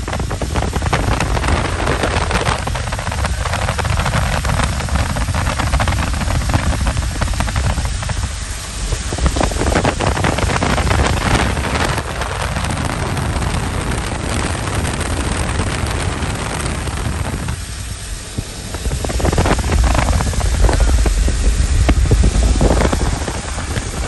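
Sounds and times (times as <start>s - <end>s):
road and traffic noise: 0.0s - 24.0s
wind buffeting microphone: 0.0s - 24.0s.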